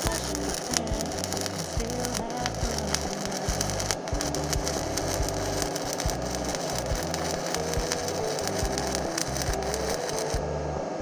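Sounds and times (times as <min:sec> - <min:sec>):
welding arc crackling: 0:00.0 - 0:10.5.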